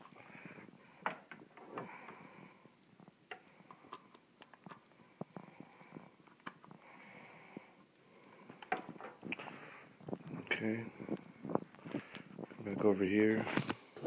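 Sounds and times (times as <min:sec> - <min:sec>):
soft breath: 0:00.0 - 0:12.6.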